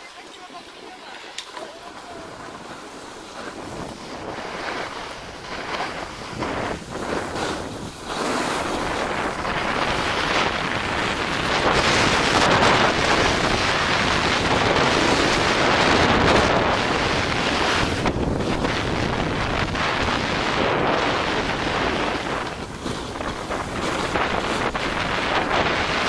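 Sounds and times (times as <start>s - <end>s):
skis scraping over packed snow: 0.0s - 26.0s
wind rushing over microphone: 1.7s - 26.0s.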